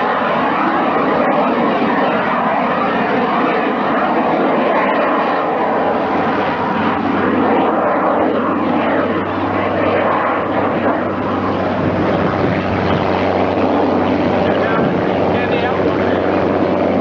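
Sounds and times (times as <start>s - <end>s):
light jet engine: 0.0s - 17.0s.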